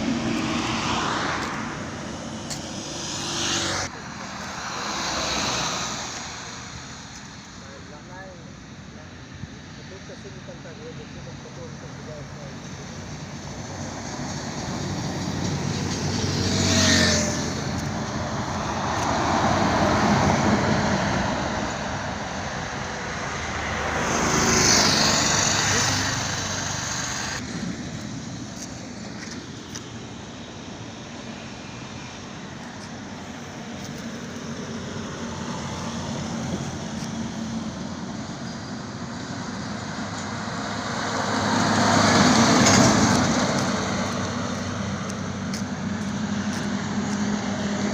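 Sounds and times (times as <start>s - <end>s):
vehicles passing on highway: 0.0s - 47.9s.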